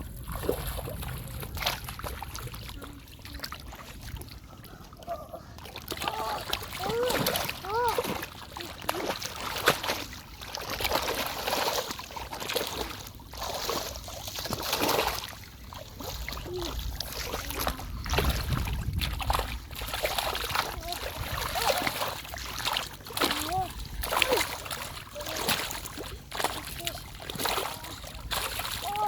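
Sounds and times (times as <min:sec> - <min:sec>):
river water splashing: 0:00.0 - 0:29.0.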